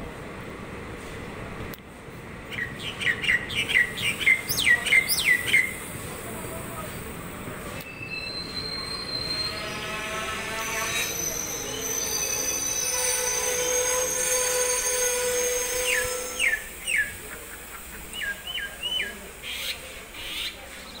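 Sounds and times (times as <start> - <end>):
train rolling past: 0.0 - 21.0
wheels squealing on rails: 2.8 - 21.0.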